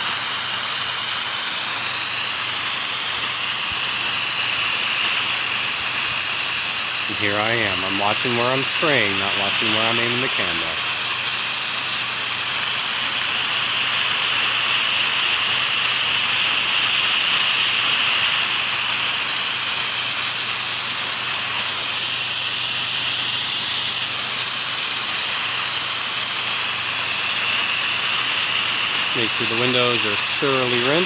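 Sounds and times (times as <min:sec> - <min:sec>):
pressure washer motor drone: 0:00.0 - 0:31.0
pressure washer spray hissing: 0:00.0 - 0:31.0.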